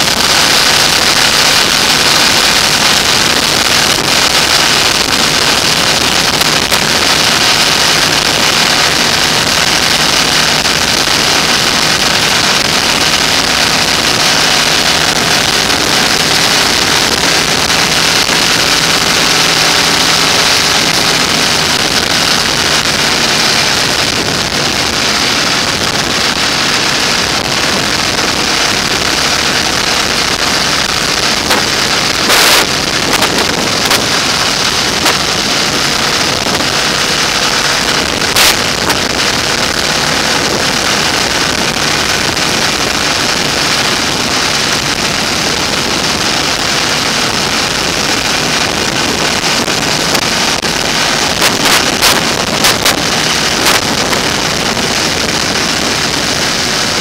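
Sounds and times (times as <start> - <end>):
motorcycle engine running: 0.0 - 57.0
wind buffets: 0.0 - 57.0
wind rush over microphone: 0.0 - 57.0.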